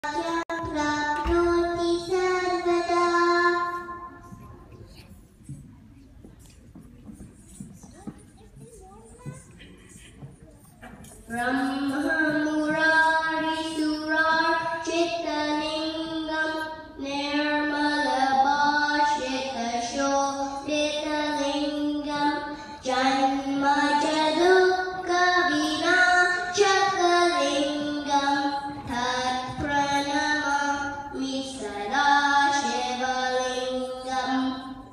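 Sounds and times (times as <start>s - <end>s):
boy singing into microphone: 0.0s - 5.0s, 11.0s - 34.9s.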